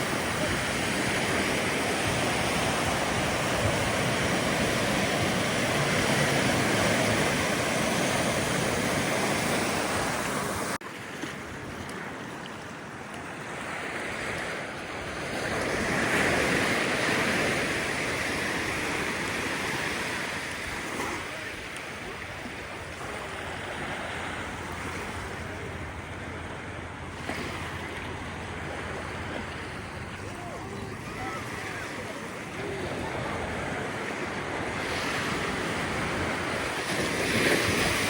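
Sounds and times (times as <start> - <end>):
ocean surf washing onto beach: 0.0 - 38.0.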